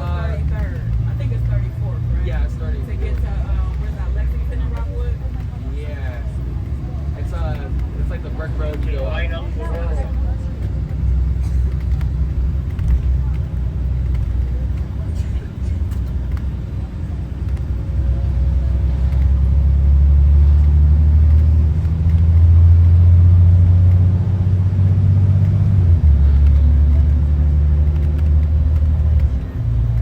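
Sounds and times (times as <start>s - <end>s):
bus diesel engine under load: 0.0s - 30.0s.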